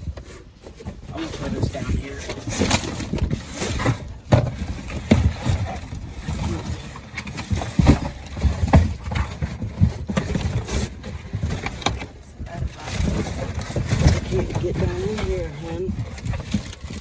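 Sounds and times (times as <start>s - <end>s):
rustling of bags: 0.0s - 17.0s
knocks and thumps in dumpster: 0.9s - 17.0s.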